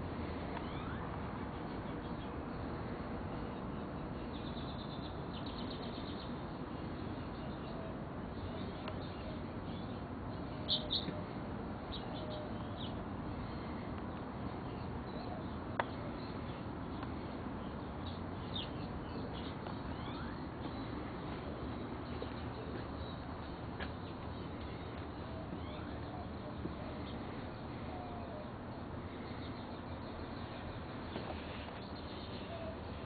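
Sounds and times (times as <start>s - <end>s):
steady background hiss: 0.0s - 33.0s
small birds chirping: 0.3s - 33.0s.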